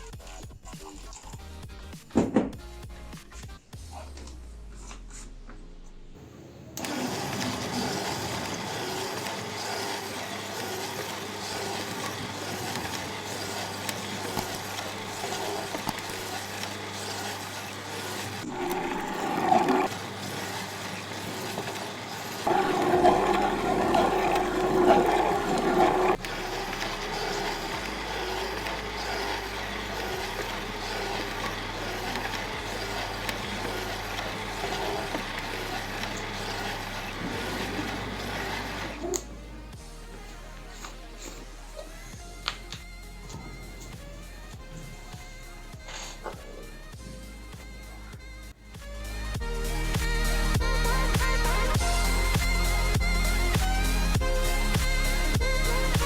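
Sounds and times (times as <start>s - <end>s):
blender motor running: 6.8s - 48.2s, 49.1s - 56.0s.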